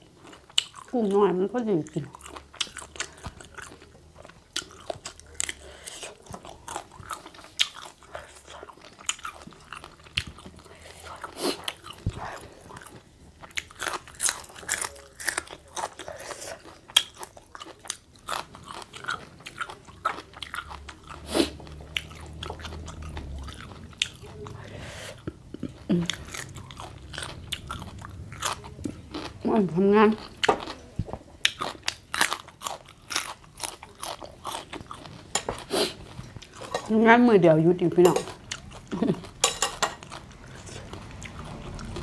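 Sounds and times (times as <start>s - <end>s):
person chewing and crunching food: 0.0s - 37.0s, 38.0s - 42.0s.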